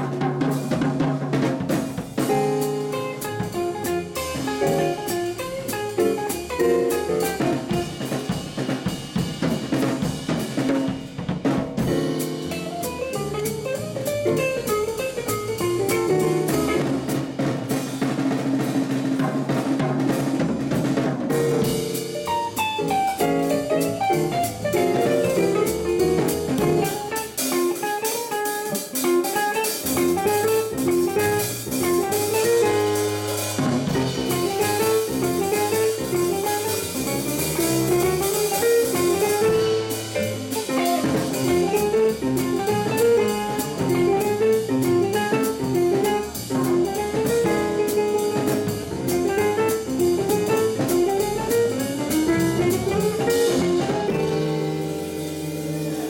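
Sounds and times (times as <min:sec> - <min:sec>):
drum kit: 0:00.0 - 0:56.0
jazz band playing blues: 0:00.0 - 0:56.0.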